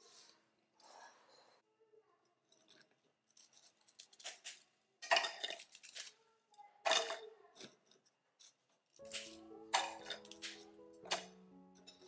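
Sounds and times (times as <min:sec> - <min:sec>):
biscuits cracking and clattering: 0:02.3 - 0:12.0.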